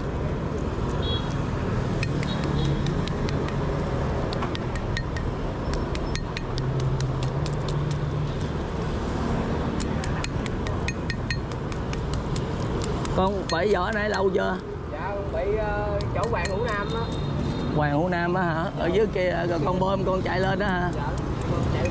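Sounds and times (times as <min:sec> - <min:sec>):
passing motorbike traffic: 0:00.0 - 0:21.9.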